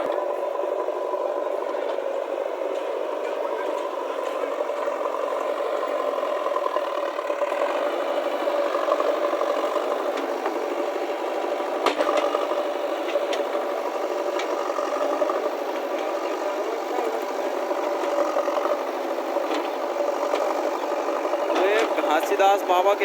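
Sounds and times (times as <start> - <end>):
diesel engine running with rattle: 0.0 - 23.0.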